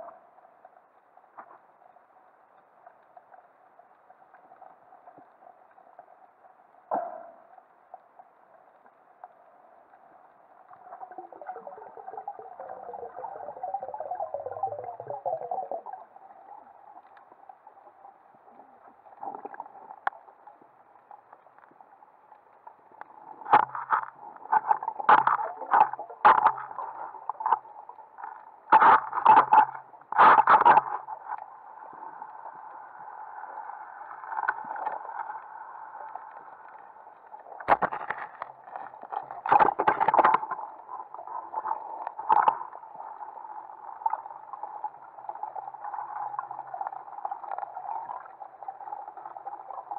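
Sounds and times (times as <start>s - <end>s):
muffled underwater wash: 0.0s - 49.9s.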